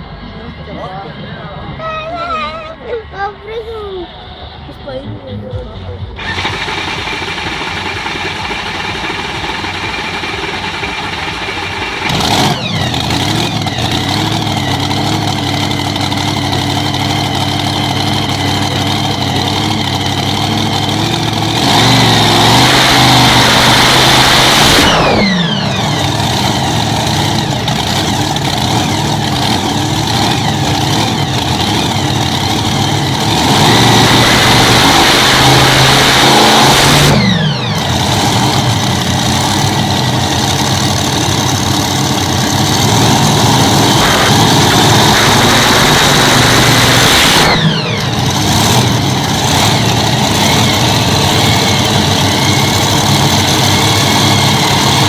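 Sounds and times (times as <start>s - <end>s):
tractor engines running hard: 0.0s - 55.0s.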